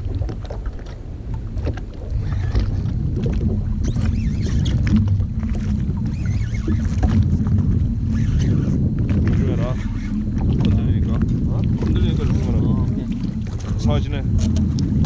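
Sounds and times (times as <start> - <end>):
jet ski rumble: 0.0 - 15.0.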